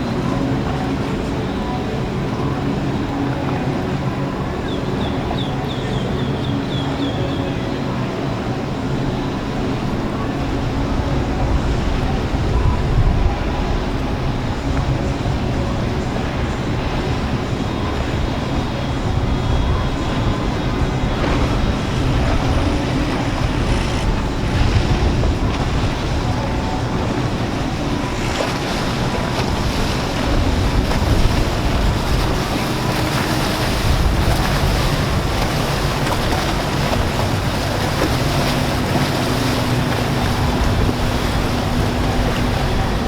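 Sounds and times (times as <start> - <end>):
churning water and waves: 0.0 - 43.0
motorboat engines roaring: 0.0 - 43.0
wind buffeting microphone: 0.0 - 43.0.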